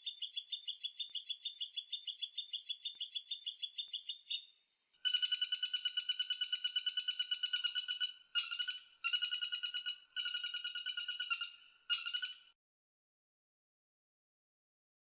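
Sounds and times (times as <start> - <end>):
woodpecker rattling trill: 0.0 - 12.5.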